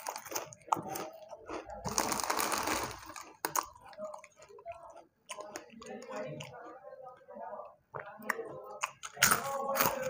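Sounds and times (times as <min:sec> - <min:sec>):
crunching and chewing crisp snack: 0:00.0 - 0:07.2, 0:07.9 - 0:10.0.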